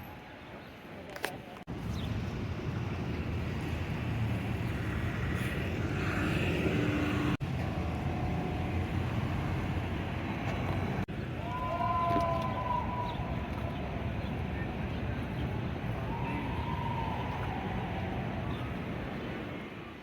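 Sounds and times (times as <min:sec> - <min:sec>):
rumble of passing vehicles: 0:01.6 - 0:20.0.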